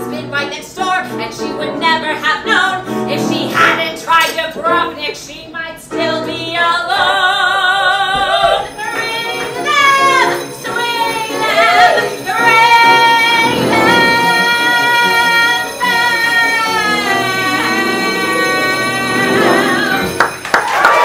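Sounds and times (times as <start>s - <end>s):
woman singing with vibrato: 0.0s - 20.3s.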